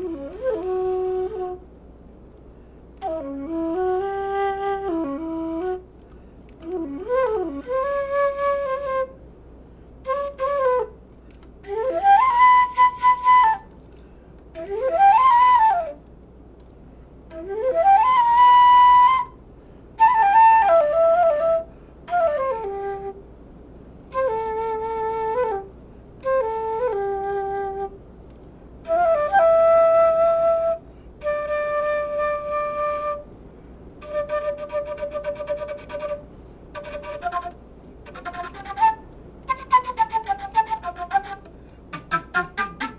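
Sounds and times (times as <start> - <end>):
flute playing slow melody: 0.0 - 1.8, 3.0 - 16.1, 17.3 - 19.4, 20.0 - 23.4, 24.1 - 28.1, 28.8 - 33.4, 34.0 - 42.9.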